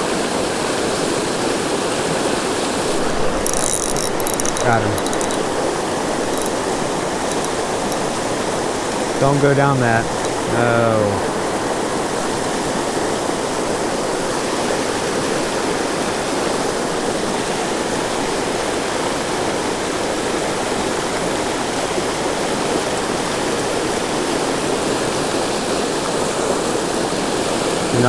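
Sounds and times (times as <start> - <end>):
water rushing over waterfall: 4.6 - 28.0.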